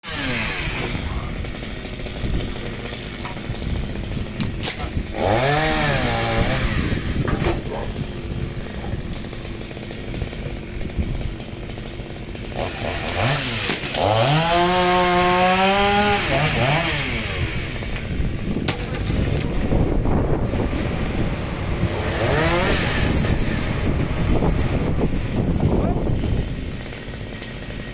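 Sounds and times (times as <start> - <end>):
chainsaw idling and revving: 0.0 - 27.9.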